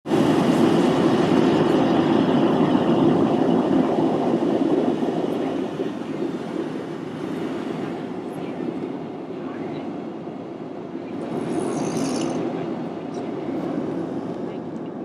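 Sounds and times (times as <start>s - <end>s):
airliner cabin roar: 0.0s - 15.0s.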